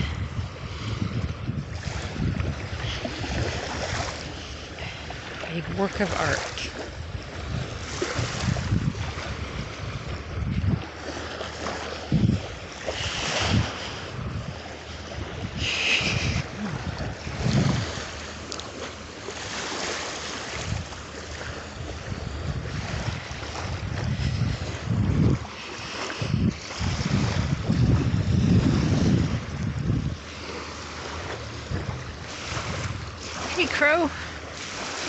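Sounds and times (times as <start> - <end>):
ocean surf: 0.0 - 35.0
wind buffeting microphone: 0.0 - 35.0.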